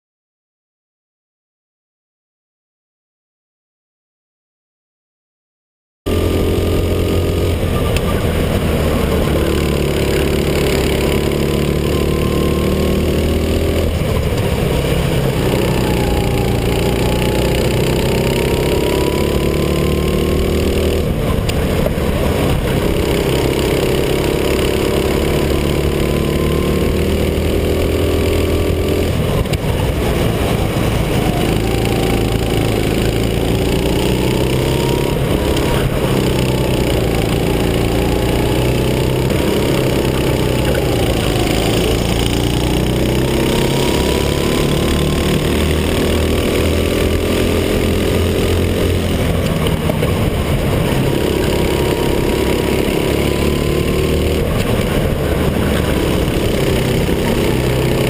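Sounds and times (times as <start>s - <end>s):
racing kart engine at full throttle: 6.1s - 58.0s.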